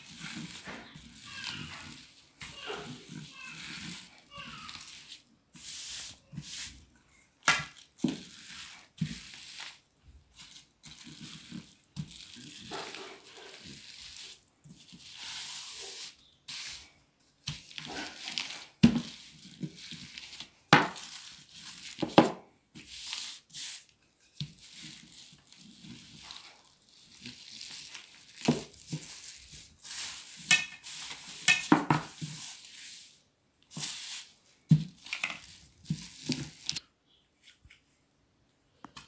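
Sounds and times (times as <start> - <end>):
rolling pin rolling dough: 0.0 - 36.8
tablecloth rustling: 0.0 - 38.0.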